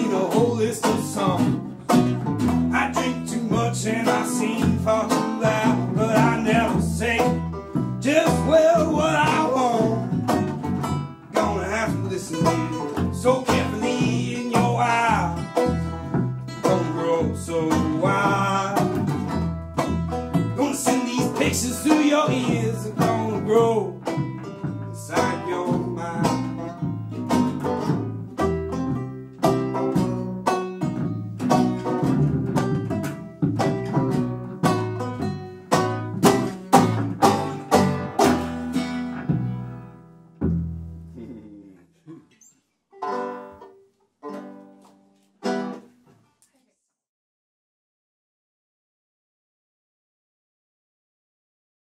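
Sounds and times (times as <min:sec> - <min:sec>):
banjo picking: 0:00.0 - 0:41.7, 0:42.9 - 0:46.3
strummed guitar: 0:00.0 - 0:41.8, 0:43.0 - 0:46.1.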